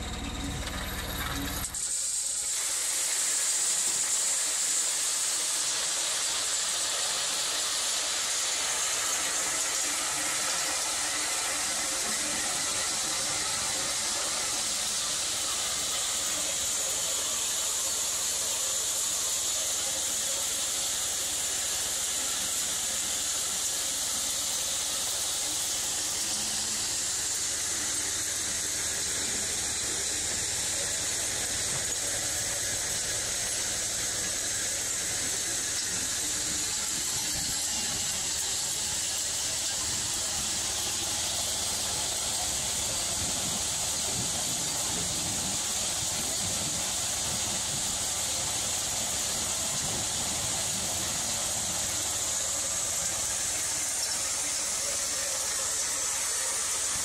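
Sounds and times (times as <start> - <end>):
hammer mill running: 0.0 - 57.0.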